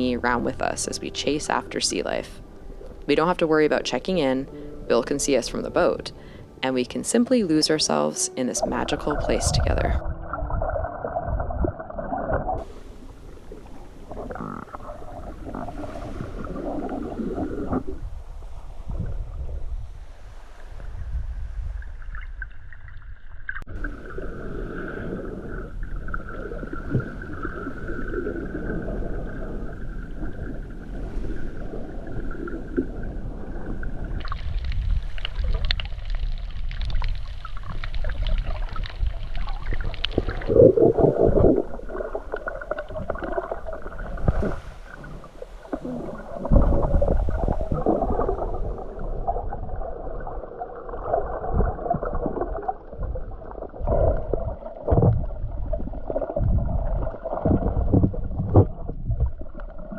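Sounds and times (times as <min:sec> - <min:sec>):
muffled underwater gurgling: 0:00.0 - 0:18.1, 0:23.7 - 0:59.9
underwater crackle: 0:08.8 - 0:19.7, 0:21.7 - 0:59.9.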